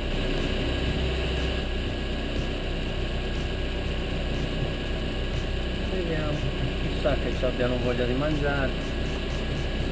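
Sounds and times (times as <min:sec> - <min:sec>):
boat engine droning: 0:00.0 - 0:09.9
wind and water hiss: 0:00.0 - 0:09.9.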